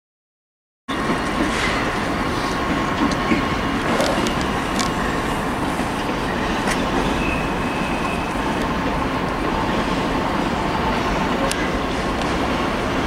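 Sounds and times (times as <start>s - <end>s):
freight train rumbling: 0.9s - 13.0s.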